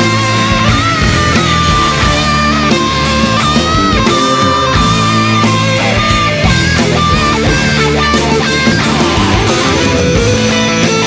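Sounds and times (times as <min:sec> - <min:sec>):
electric guitar rock music: 0:00.0 - 0:11.0
steady drum beat: 0:00.0 - 0:11.0.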